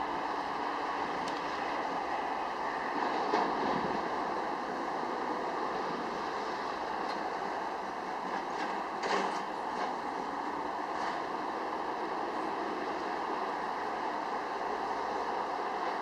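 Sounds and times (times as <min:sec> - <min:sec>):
distant road traffic: 0:00.0 - 0:16.0
wind: 0:00.0 - 0:16.0.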